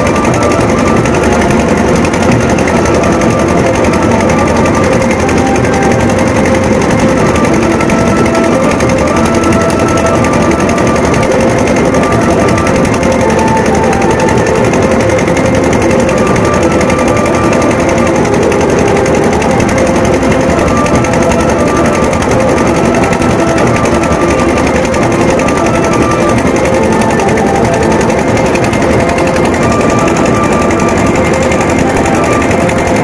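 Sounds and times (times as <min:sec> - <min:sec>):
drums in fast rattling roll: 0:00.0 - 0:33.0.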